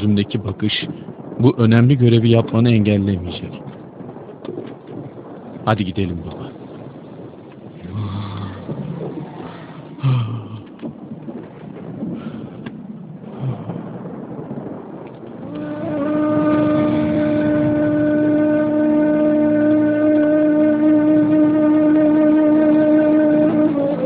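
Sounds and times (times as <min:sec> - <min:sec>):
low bumps: 0:00.0 - 0:24.0
wind rumble: 0:00.0 - 0:24.0.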